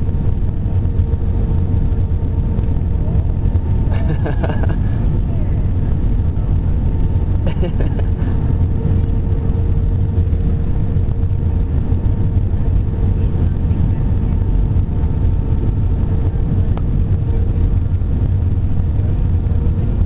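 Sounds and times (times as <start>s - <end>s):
jet cabin low rumble: 0.0s - 20.0s
steady hum: 0.0s - 20.0s.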